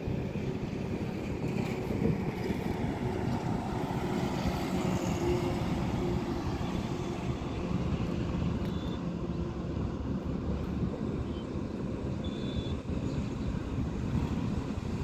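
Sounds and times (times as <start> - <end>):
heavy trucks passing on highway: 0.0 - 15.0.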